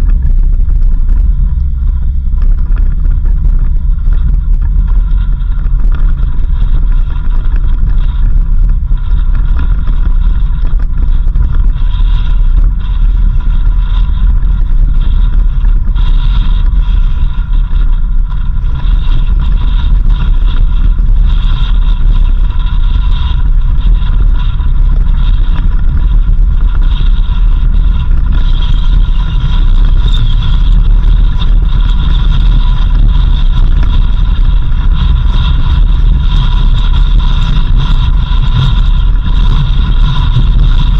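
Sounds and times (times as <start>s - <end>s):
off-road vehicle engine rumble: 0.0s - 40.9s.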